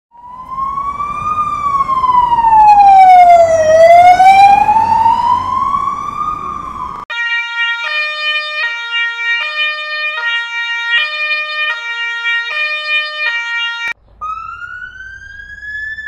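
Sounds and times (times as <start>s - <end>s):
police siren wailing: 0.1s - 16.0s
two-tone stepped siren: 0.1s - 16.0s.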